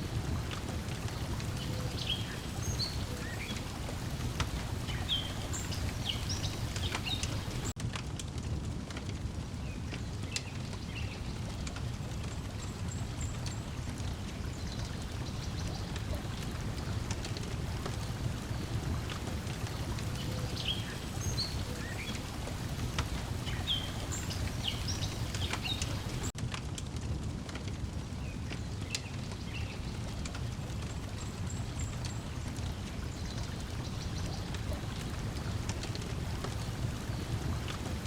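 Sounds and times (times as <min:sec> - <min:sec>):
lake water lapping: 0:00.0 - 0:07.8, 0:11.5 - 0:26.3, 0:29.6 - 0:38.0
wood fire crackling: 0:00.0 - 0:38.0.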